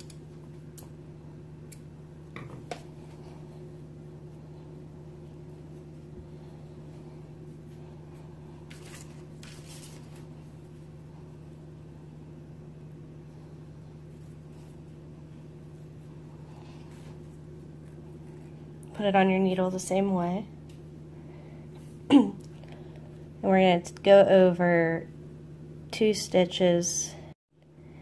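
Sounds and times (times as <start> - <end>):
low hum of room tone: 0.0 - 28.0.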